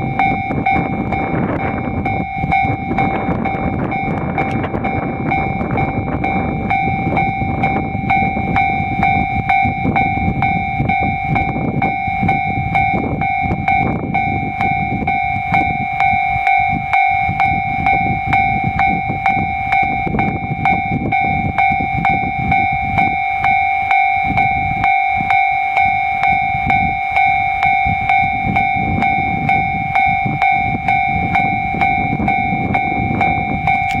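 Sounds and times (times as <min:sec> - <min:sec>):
railroad crossing warning bell: 0:00.0 - 0:34.0.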